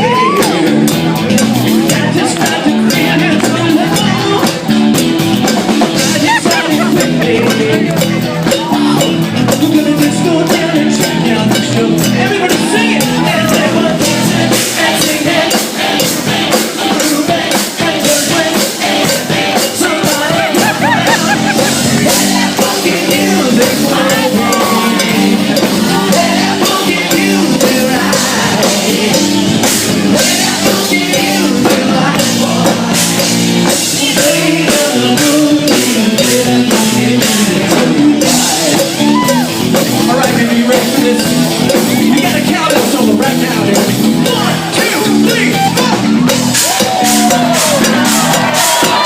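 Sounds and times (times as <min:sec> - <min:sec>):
drum kit beat: 0:00.0 - 0:49.0
live rock band playing: 0:00.0 - 0:49.0
person singing: 0:00.0 - 0:49.0.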